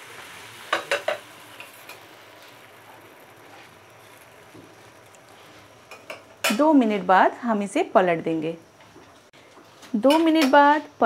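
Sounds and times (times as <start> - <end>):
batter sizzling in a frying pan: 0.0 - 9.3.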